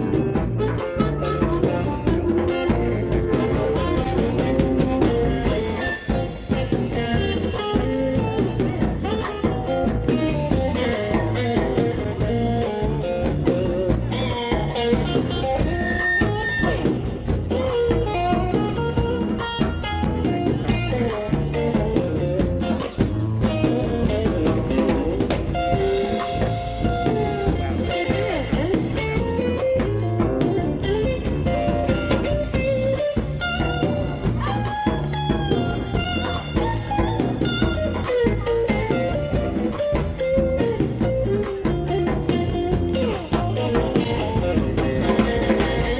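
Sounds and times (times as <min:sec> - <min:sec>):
blues-rock band instrumental: 0:00.0 - 0:45.9
drum kit: 0:00.0 - 0:45.9
lead guitar: 0:00.0 - 0:45.9.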